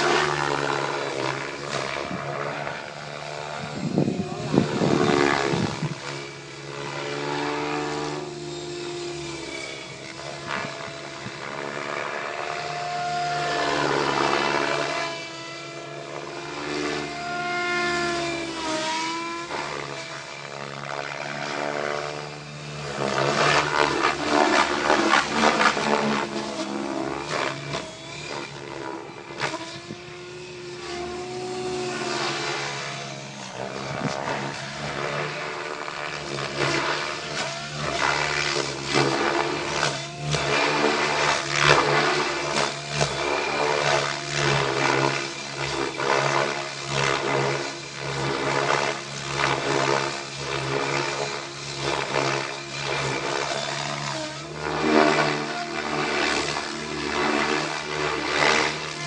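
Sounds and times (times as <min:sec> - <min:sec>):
model helicopter rotor drone: 0:00.0 - 0:59.0.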